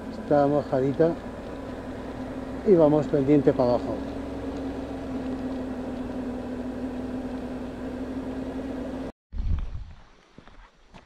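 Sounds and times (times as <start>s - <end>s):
motorcycle engine running: 0.0s - 9.1s
road and wind noise: 0.0s - 10.1s.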